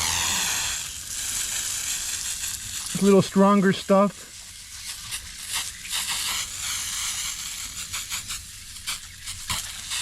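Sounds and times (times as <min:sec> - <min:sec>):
spray hissing in spurts: 0:00.0 - 0:10.0.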